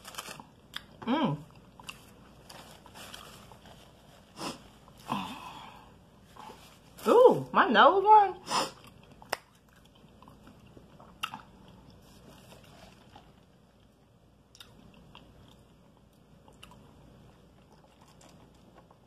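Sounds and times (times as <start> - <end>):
soft chewing: 0.1 - 5.1, 5.9 - 7.0, 8.7 - 19.0.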